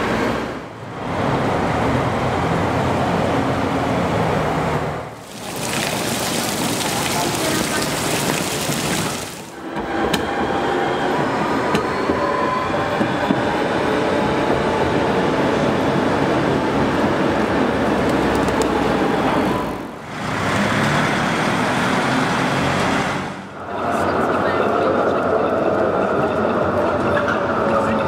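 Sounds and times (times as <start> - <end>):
street traffic noise: 0.0 - 28.0
tram rolling past: 0.0 - 28.0.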